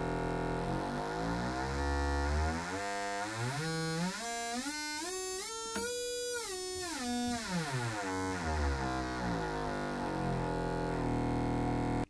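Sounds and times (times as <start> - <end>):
buzzy oscillator tone sweeping: 0.0 - 12.0.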